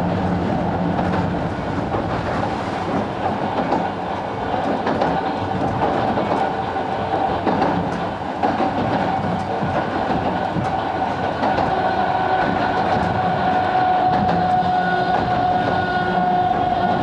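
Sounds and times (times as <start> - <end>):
electric train whine: 0.0 - 17.0
train rumble: 0.0 - 17.0
wheels clicking on track: 0.0 - 17.0.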